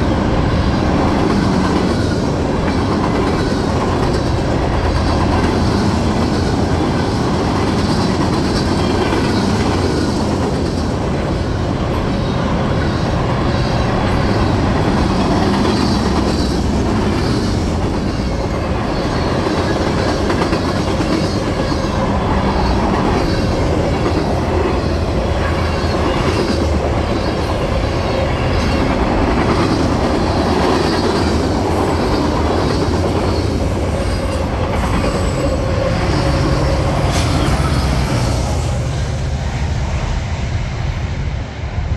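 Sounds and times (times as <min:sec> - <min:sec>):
clickety-clack over rail joints: 0:00.0 - 0:40.0
steel wheels rumbling on rail: 0:00.0 - 0:41.9.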